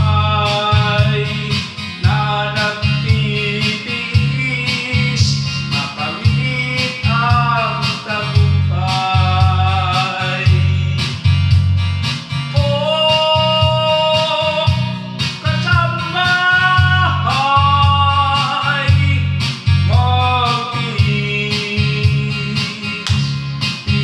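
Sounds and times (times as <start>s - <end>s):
man singing into microphone: 0.0s - 11.4s, 12.5s - 24.0s
band backing music: 0.0s - 24.0s.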